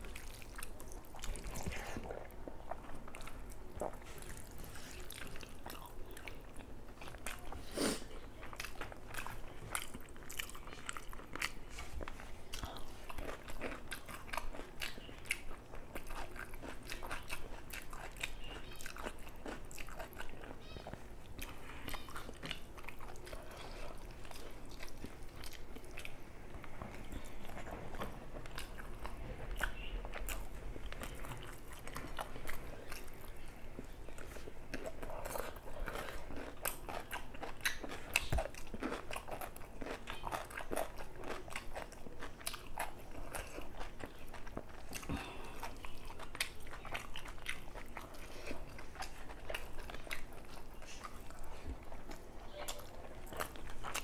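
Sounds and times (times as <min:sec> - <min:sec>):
wet chewing clicks and smacks: 0:08.2 - 0:54.0.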